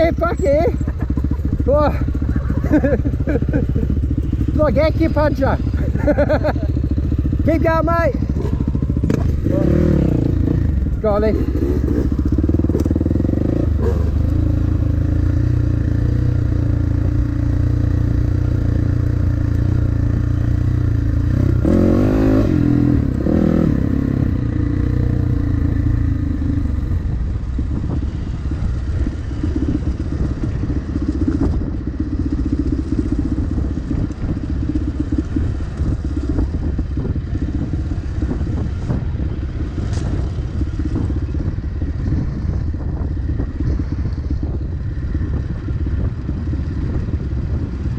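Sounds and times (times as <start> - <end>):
dirt bike engine running: 0.0 - 47.9
rough noisy ride sound: 0.0 - 47.9.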